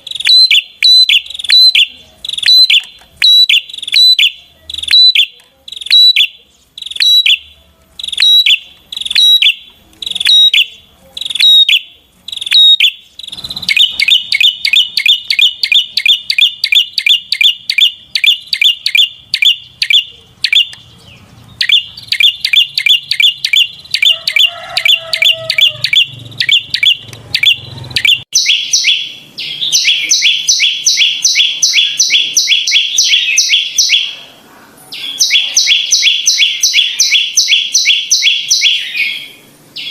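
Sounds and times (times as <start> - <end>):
fast high bird chirps: 0.0 - 34.2, 34.9 - 39.9.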